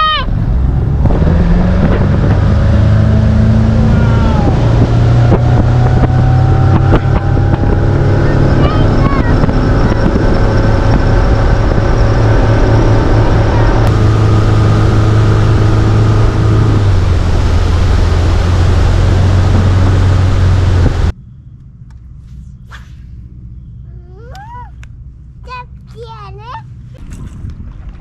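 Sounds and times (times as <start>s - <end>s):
outboard motor running: 0.5s - 28.0s.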